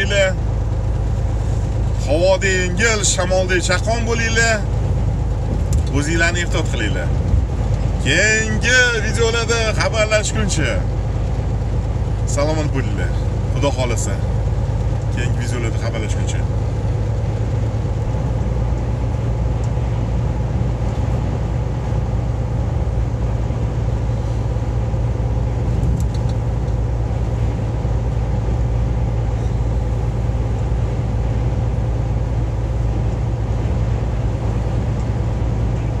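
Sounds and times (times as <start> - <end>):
engine and tyre road noise: 0.0 - 36.0.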